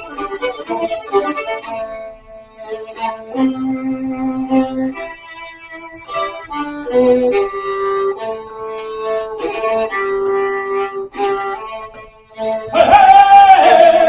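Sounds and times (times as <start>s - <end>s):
solo violin melody: 0.0s - 14.0s.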